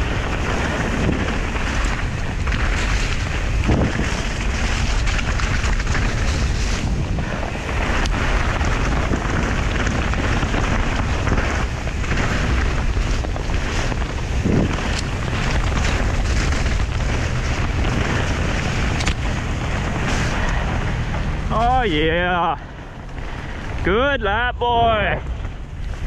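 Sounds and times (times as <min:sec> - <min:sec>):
tyres rolling on wet dirt: 0:00.0 - 0:26.0
wind rush on microphone: 0:00.0 - 0:26.0.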